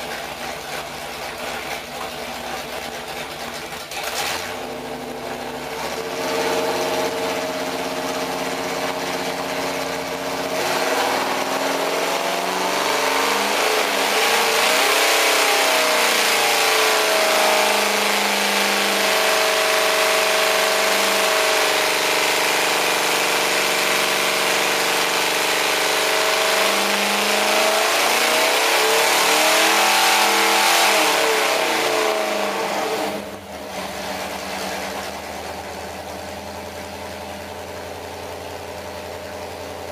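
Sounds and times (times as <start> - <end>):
engine running on a dyno: 0.0 - 39.9.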